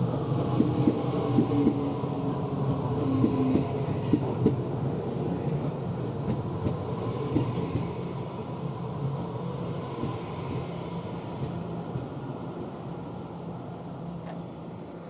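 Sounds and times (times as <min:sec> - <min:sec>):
electric train rolling past: 0:00.0 - 0:15.0.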